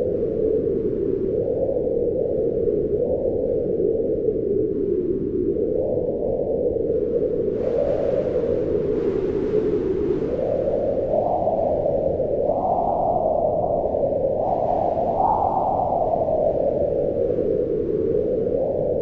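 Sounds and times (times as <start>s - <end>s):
howling wind gusts: 0.0s - 19.0s.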